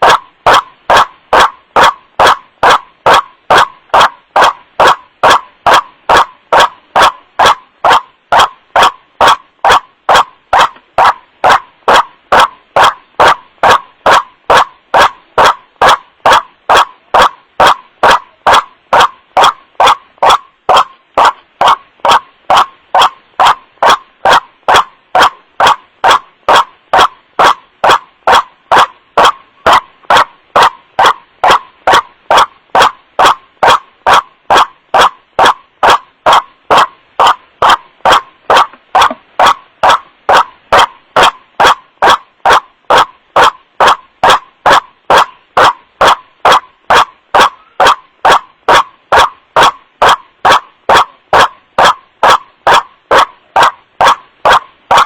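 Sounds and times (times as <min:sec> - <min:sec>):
waterhen harsh calls: 0:00.0 - 0:48.0.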